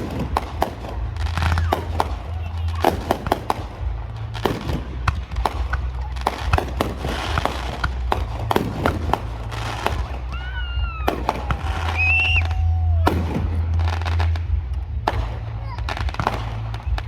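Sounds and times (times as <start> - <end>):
fireworks bangs and crackles: 0.0 - 17.0
fireworks whistling: 0.0 - 17.0.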